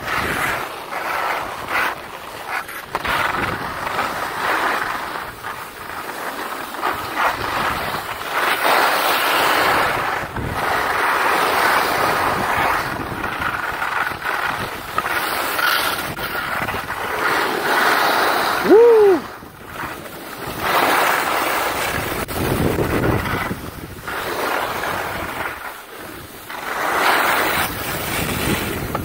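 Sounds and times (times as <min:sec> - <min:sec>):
skis scraping over packed snow: 0:00.0 - 0:29.0.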